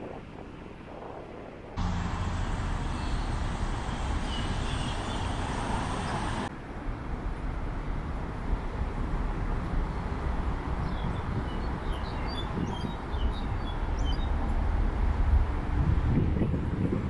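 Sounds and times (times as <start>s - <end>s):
street traffic rumble: 1.8s - 17.0s.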